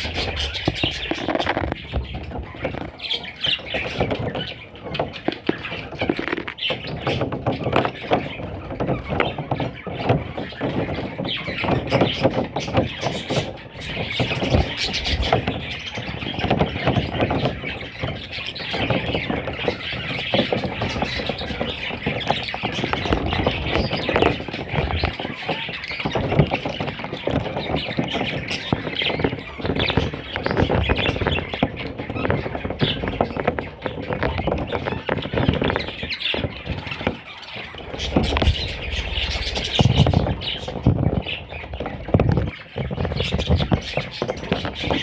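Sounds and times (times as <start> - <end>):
budgerigars chirping: 0.0 - 45.0.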